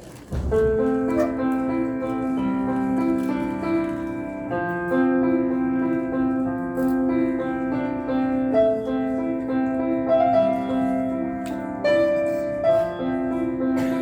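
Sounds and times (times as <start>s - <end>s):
solo piano piece: 0.0s - 14.0s.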